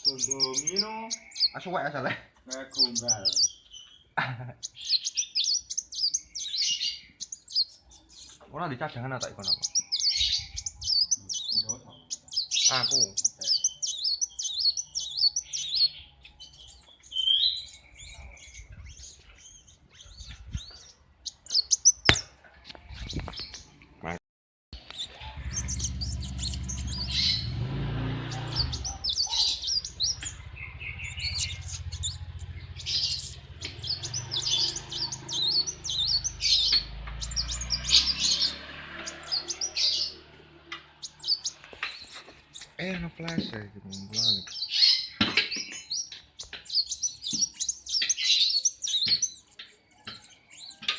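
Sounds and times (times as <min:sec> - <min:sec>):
bird chirping and twittering: 0:00.0 - 0:24.2, 0:24.8 - 0:50.9.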